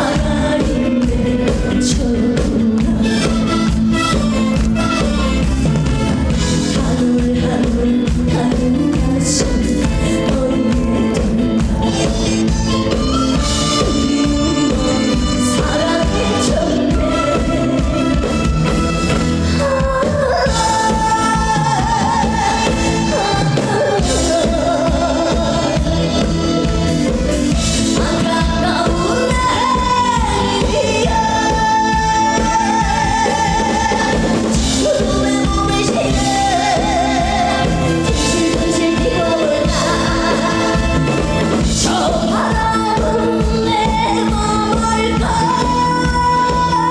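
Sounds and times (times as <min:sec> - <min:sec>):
woman singing through pa: 0:00.0 - 0:05.5, 0:06.3 - 0:46.9
amplified backing music: 0:00.0 - 0:46.9.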